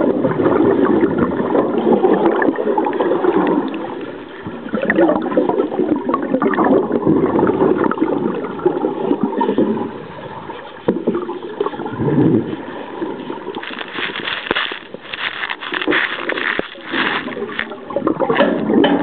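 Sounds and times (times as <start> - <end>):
underwater water rushing: 0.0 - 18.9
bubbles crackling: 0.0 - 19.0.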